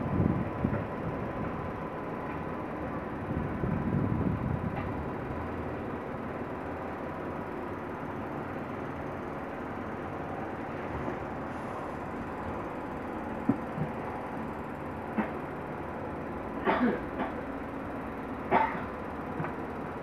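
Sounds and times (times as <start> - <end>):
faint steady whine: 0.0 - 20.0
train rumble: 0.0 - 20.0.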